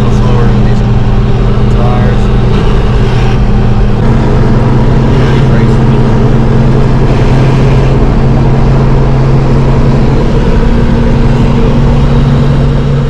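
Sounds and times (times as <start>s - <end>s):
car engine and road noise: 0.0s - 13.0s
constant low hum: 0.0s - 13.0s.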